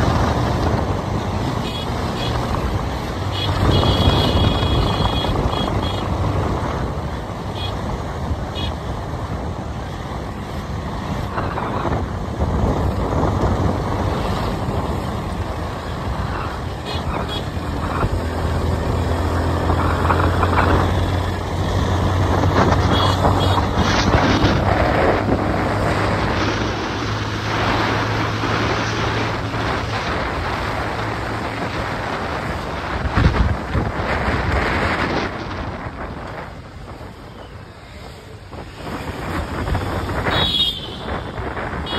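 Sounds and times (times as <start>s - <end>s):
motorbike engine hum: 0.0s - 41.9s
wind rushing over microphone: 0.0s - 41.9s.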